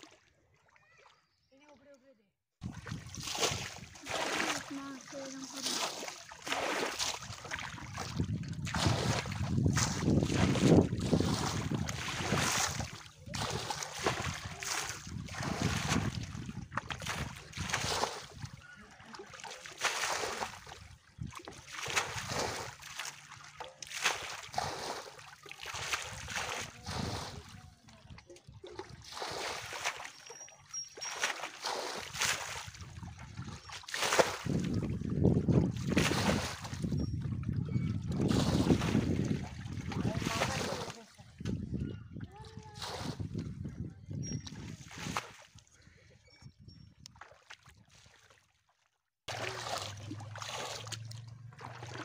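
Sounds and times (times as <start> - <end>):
water splashing: 0.0 - 1.3, 2.6 - 41.6, 49.3 - 52.0
water trickling and sloshing: 0.0 - 52.0.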